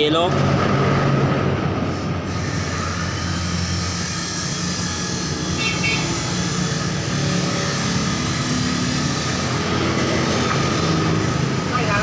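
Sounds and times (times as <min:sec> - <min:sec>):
low mechanical drone with hum: 0:00.4 - 0:12.0.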